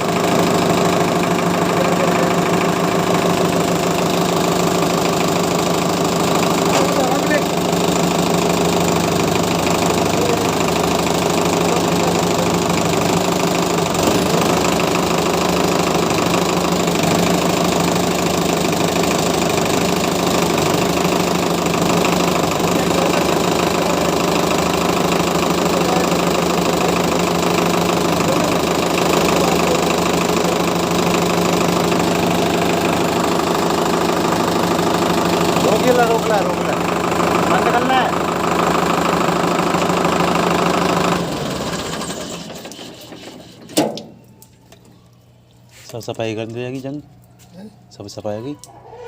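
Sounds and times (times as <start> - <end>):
tractor diesel engine running: 0.0 - 48.6.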